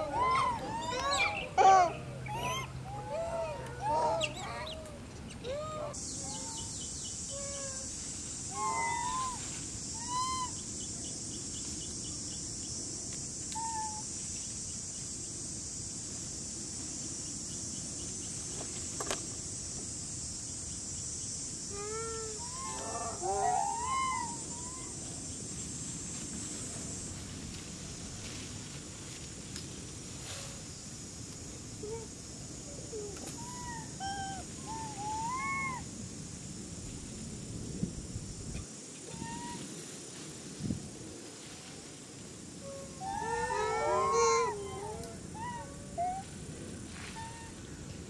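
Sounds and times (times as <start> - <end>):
insect drone: 0.0 - 48.0.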